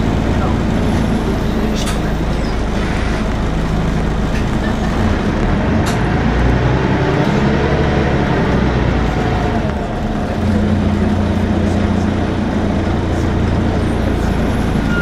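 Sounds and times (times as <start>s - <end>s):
bus diesel engine running: 0.0s - 15.0s
rumble of body and road: 0.0s - 15.0s.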